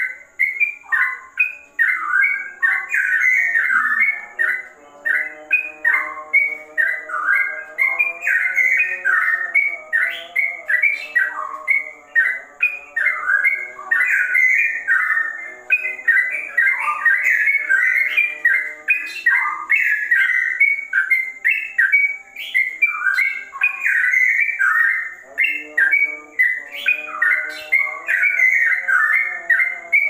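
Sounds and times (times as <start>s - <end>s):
bird singing whistled notes: 0.0s - 30.0s.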